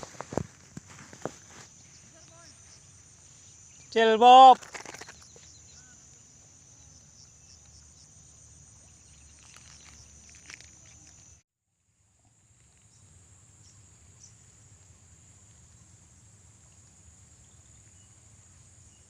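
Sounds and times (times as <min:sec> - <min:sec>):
insects chirring: 0:00.0 - 0:11.4, 0:12.0 - 0:19.0.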